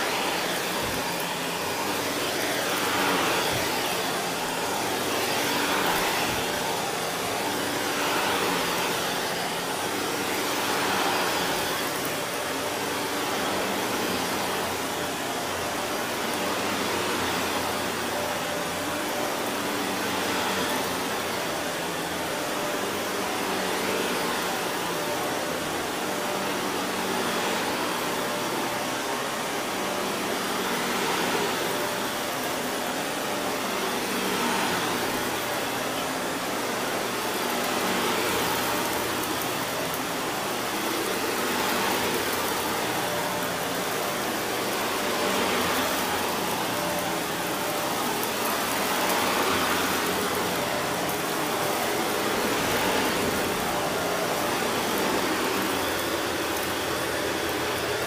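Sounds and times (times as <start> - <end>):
vacuum cleaner on carpet: 0.0 - 58.0.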